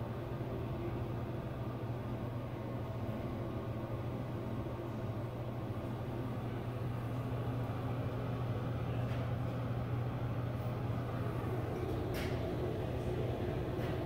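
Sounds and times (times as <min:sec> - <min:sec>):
exhaust fan humming: 0:00.0 - 0:14.0.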